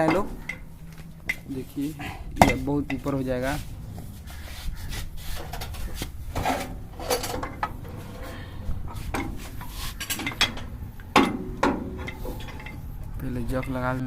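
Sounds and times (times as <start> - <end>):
metal clanks and knocks: 0.0 - 4.2, 4.8 - 14.0.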